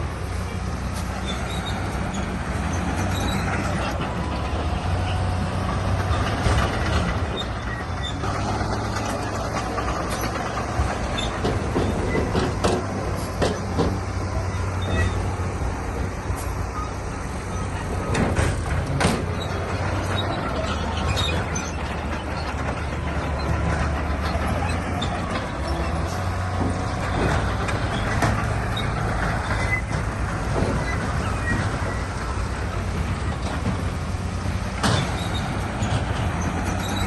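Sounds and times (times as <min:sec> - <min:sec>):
heavy diesel engine running: 0:00.0 - 0:37.0
metal and rock clanks: 0:05.7 - 0:15.4, 0:16.2 - 0:37.0.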